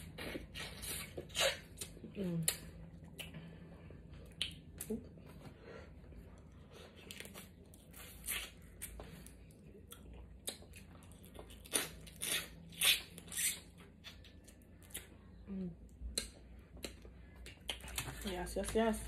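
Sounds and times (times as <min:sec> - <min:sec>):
chewing and mouth sounds: 0:00.0 - 0:05.4, 0:06.3 - 0:18.8.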